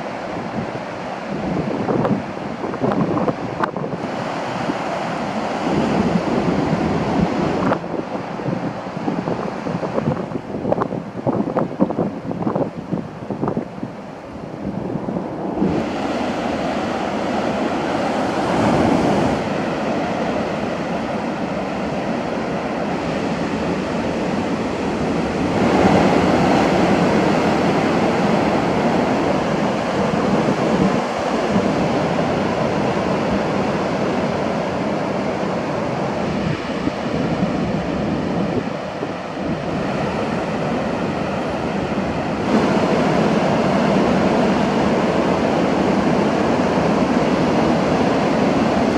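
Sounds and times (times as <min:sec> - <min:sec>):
ocean surf breaking: 0:00.0 - 0:48.9.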